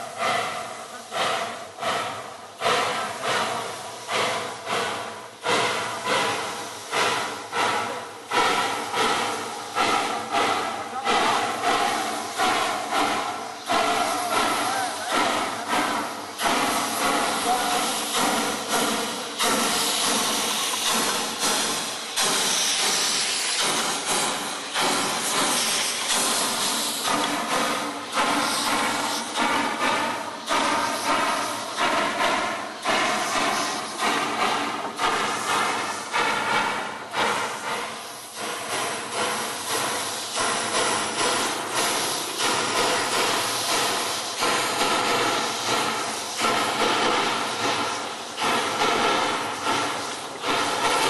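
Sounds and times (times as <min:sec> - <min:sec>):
steam locomotive chuffing: 0:00.0 - 0:51.0.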